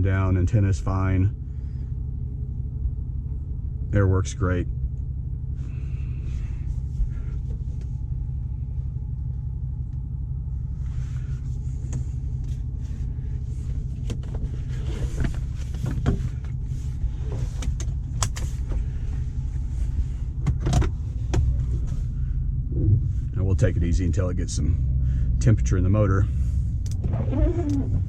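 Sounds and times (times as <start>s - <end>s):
car engine running cold: 0.0s - 28.0s.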